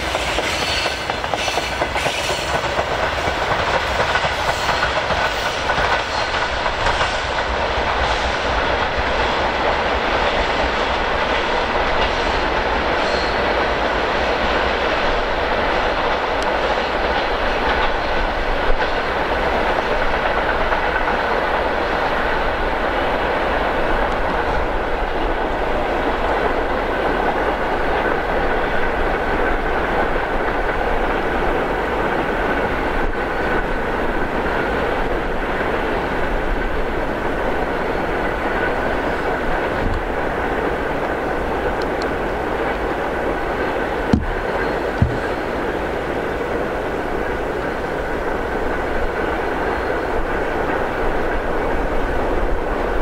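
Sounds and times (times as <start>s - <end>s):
freight train wheels clattering: 0.0s - 47.5s.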